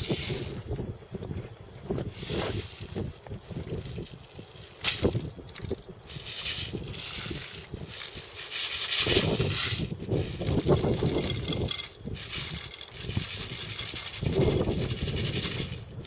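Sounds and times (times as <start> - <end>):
plastic pellets rattling and clicking: 0.0 - 0.8, 2.1 - 16.0.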